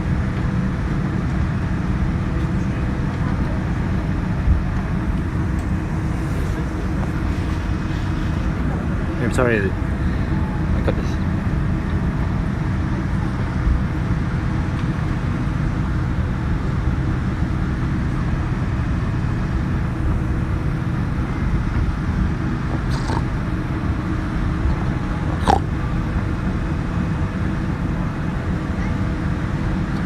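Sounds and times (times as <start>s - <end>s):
aircraft engines humming: 0.0s - 30.0s.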